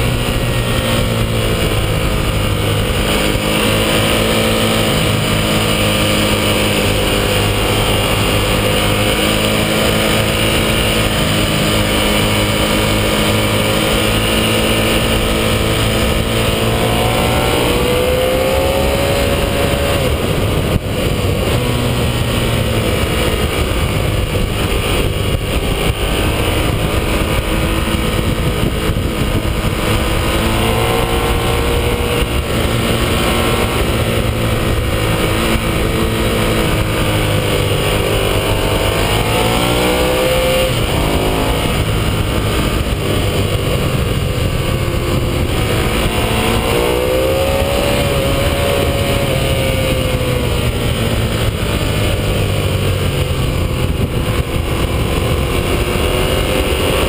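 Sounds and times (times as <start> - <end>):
constant rushing noise: 0.0 - 57.0
motorcycle engine running hard: 0.0 - 57.0.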